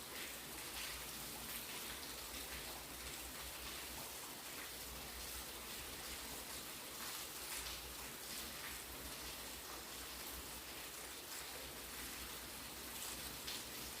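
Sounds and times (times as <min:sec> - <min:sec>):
raindrops striking surfaces: 0:00.0 - 0:14.0.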